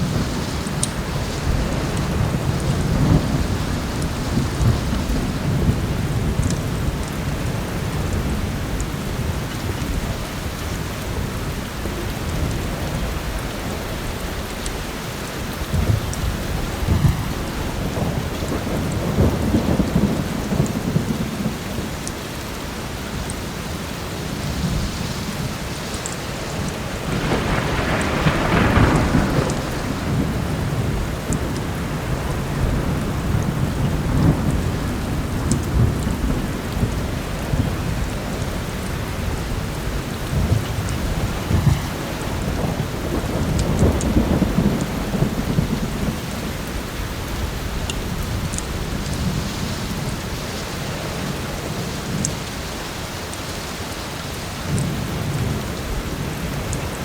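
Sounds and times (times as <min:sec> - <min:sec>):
thunder rumbling: 0:00.0 - 0:53.1
heavy rain: 0:00.0 - 0:57.0.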